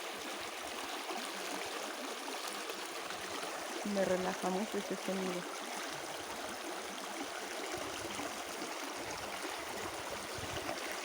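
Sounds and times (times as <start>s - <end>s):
water flowing in channel: 0.0s - 11.0s.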